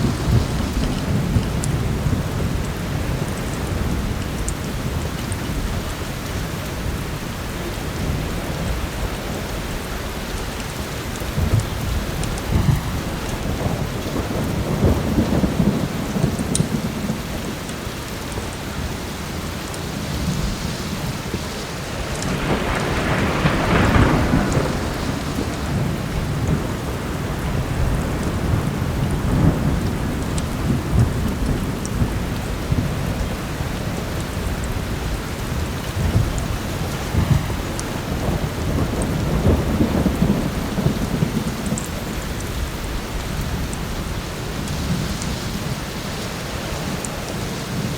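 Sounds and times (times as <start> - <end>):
heavy rain: 0.0 - 47.9
rolling thunder: 0.0 - 47.9.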